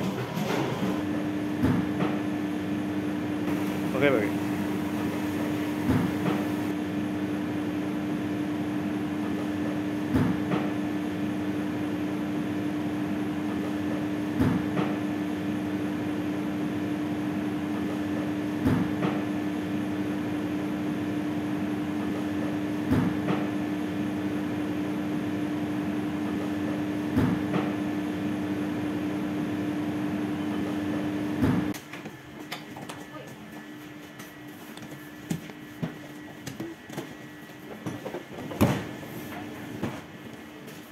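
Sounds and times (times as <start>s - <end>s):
mechanical hum: 0.0s - 40.9s.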